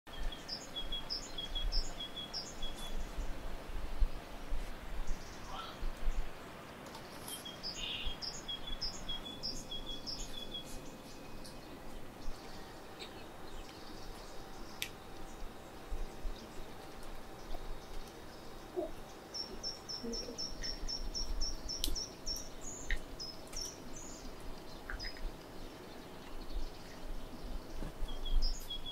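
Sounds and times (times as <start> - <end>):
small birds chirping: 0.1 - 28.9
steady background hiss: 0.1 - 28.9.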